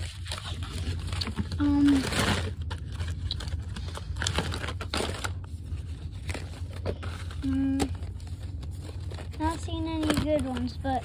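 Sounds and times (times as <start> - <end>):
cards rustling in plastic box: 0.0 - 11.0.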